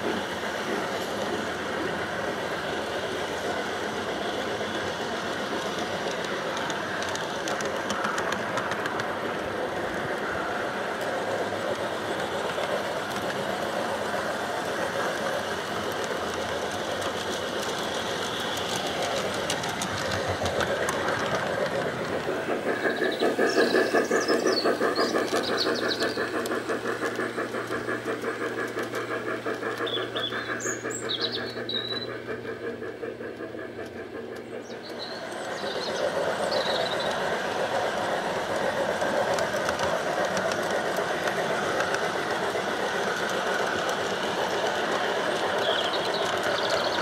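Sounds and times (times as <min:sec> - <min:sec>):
model locomotive pulsing: 0:00.0 - 0:47.0
model train wagons rattling: 0:00.0 - 0:47.0.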